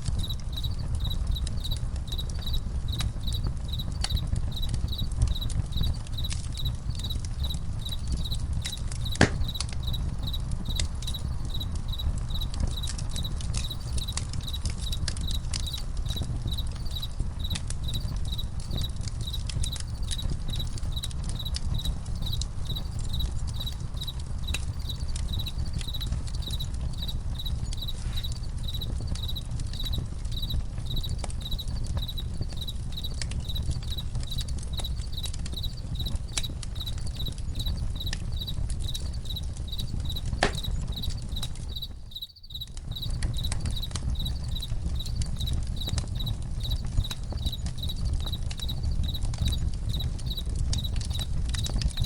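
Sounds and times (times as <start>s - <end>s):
campfire crackling and popping: 0.0s - 52.0s
crickets chirping: 0.0s - 52.0s.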